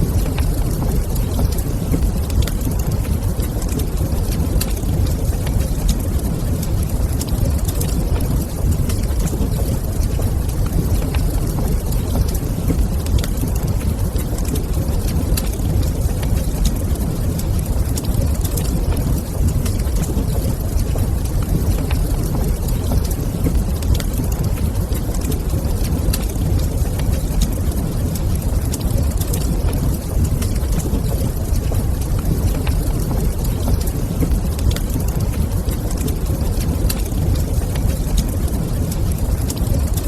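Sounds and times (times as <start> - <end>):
fire crackling pops: 0.0 - 40.0
fire low rumble: 0.0 - 40.0.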